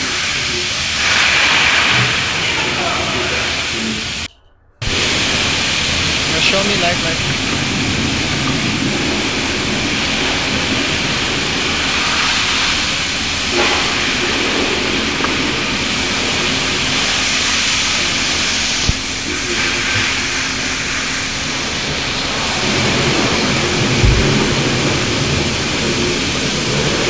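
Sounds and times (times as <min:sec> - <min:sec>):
car engine hissing hum: 0:00.0 - 0:27.0.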